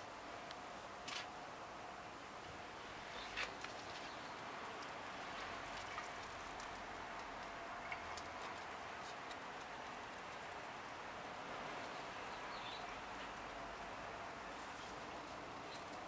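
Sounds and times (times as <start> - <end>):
light ticks and rustles: 0.4 - 1.4, 2.4 - 16.0.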